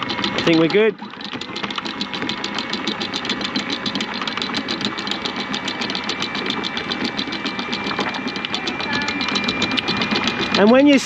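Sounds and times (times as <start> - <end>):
faint motor whine: 0.0 - 11.0.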